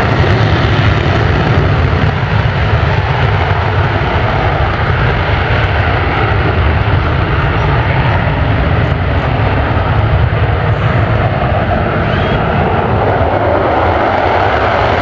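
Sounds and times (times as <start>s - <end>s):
deep rumble: 0.0s - 15.0s
jet engines roaring: 0.0s - 15.0s.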